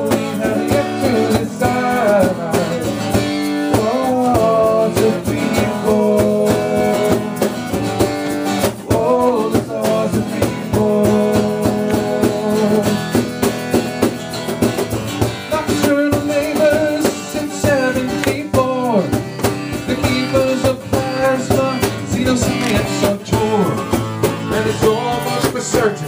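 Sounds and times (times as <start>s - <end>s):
bent guitar notes: 0.0s - 26.0s
live band playing: 0.0s - 26.0s.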